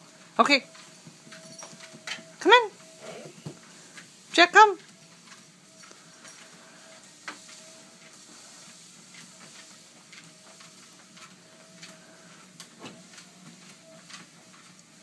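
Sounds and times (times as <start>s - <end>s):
treadmill humming: 0.0s - 15.0s.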